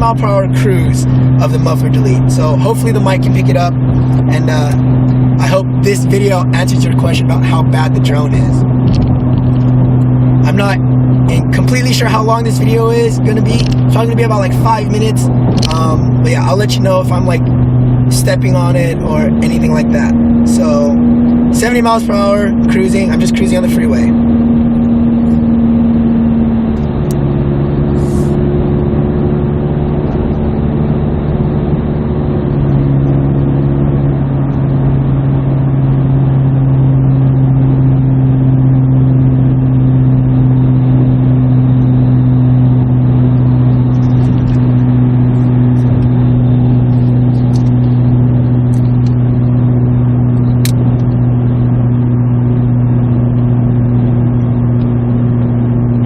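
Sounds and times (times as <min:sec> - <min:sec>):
car exhaust drone: 0:00.0 - 0:56.0.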